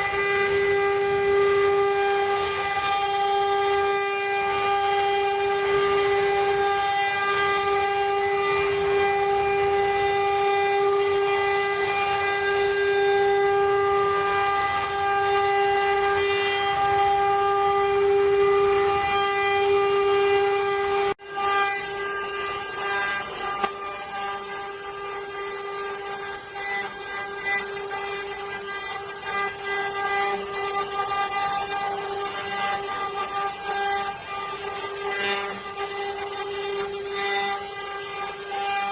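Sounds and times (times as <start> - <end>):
hiss of wood cutting: 0.0 - 38.9
router spindle high whine: 0.0 - 38.9.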